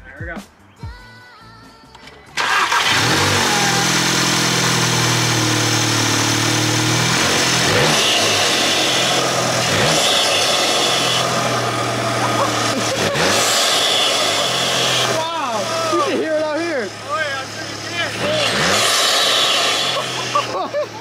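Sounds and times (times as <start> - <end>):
car engine cranking and idling: 1.9 - 21.0.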